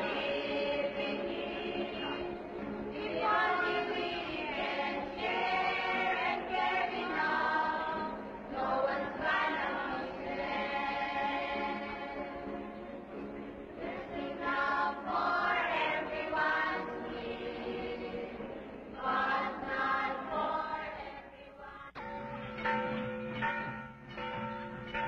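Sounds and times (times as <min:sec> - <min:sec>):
choir singing: 0:00.0 - 0:22.1.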